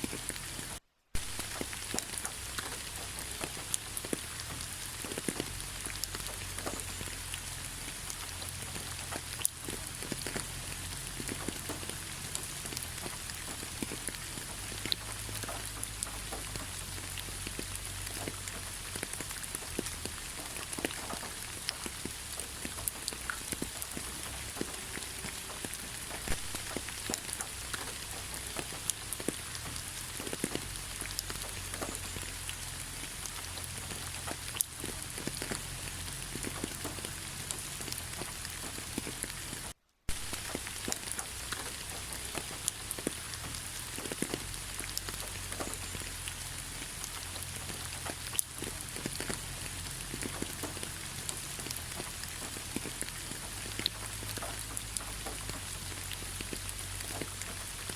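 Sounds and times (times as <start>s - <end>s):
raindrops tapping: 0.0s - 57.9s
steady rain: 0.0s - 57.9s.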